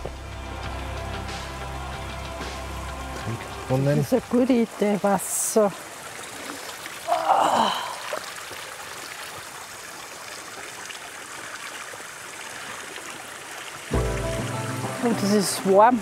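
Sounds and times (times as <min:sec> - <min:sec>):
water trickling from fountain: 0:00.0 - 0:16.0.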